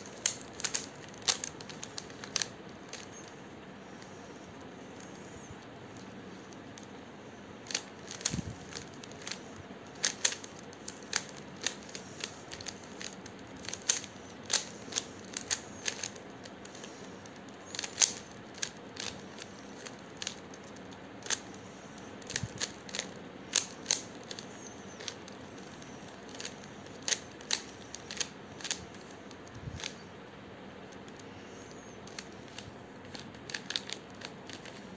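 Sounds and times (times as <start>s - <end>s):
puzzle cube layers clicking: 0.0s - 6.9s, 7.6s - 30.2s, 30.8s - 34.9s.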